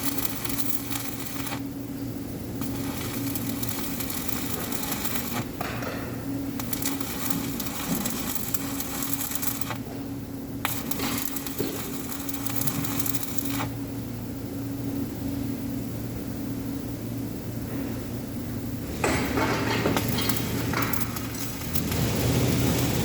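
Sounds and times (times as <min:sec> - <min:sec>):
welding arc crackling: 0:00.0 - 0:15.6, 0:18.5 - 0:23.0
welder humming: 0:00.0 - 0:17.2, 0:18.1 - 0:23.0.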